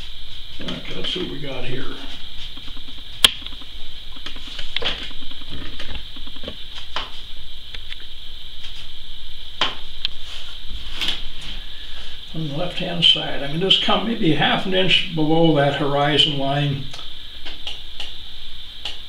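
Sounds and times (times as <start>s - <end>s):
steady high-pitched hiss: 0.0s - 19.0s.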